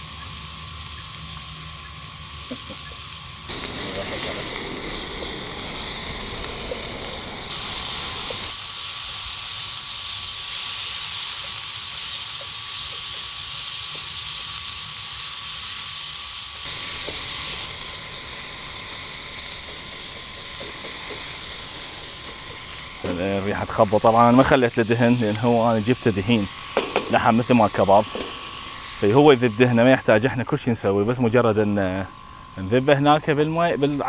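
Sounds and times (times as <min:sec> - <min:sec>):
meat sizzling in a frying pan: 0:00.0 - 0:29.3.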